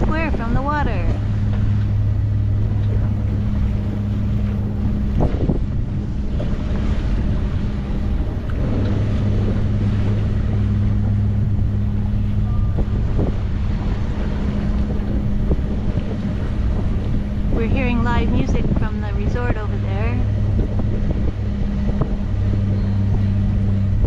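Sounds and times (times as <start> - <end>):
boat diesel engine droning: 0.0 - 24.0
wind buffeting microphone: 0.0 - 24.0.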